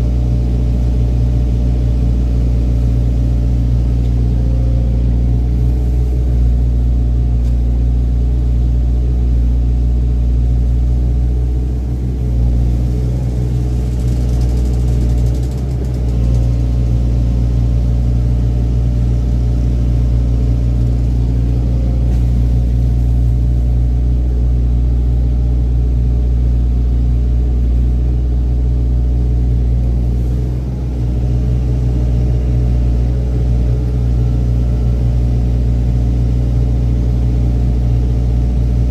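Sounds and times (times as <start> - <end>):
excavator diesel engine humming: 0.0 - 38.9.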